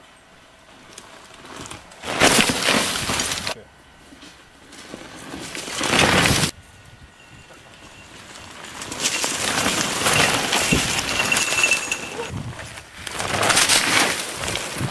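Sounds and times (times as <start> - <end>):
mountain bike tyre and trail noise: 0.0 - 14.9.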